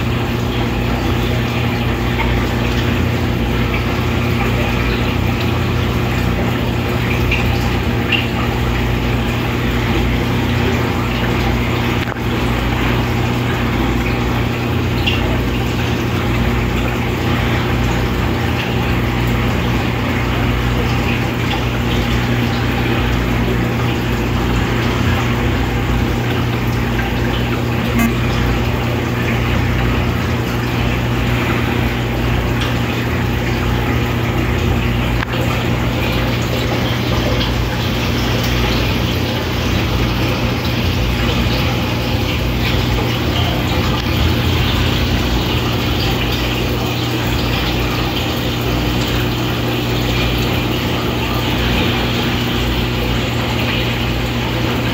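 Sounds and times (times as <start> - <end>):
electric hum: 0.0 - 54.9
rushing water from aquarium pumps: 0.0 - 54.9.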